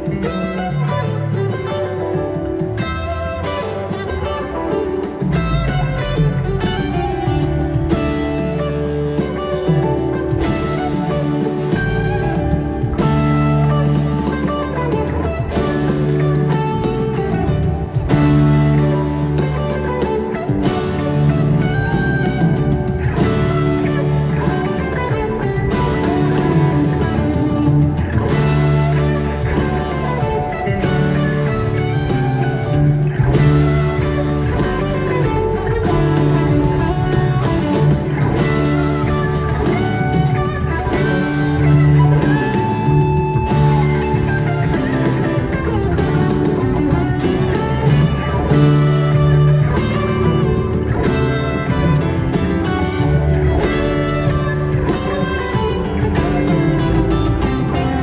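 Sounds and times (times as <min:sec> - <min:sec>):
electric guitar lines: 0:00.0 - 0:58.0
live rock band playing: 0:00.0 - 0:58.0.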